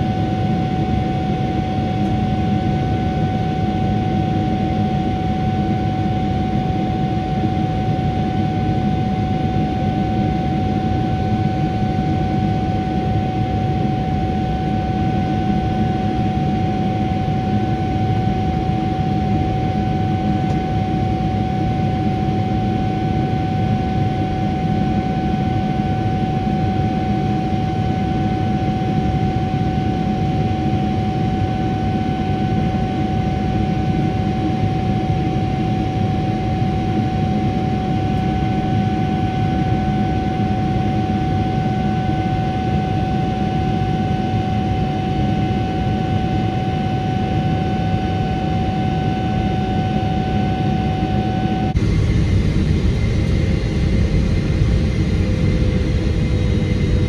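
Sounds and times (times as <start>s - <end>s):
constant fan tone: 0.0s - 57.0s
jet engine roar in cabin: 0.0s - 57.0s.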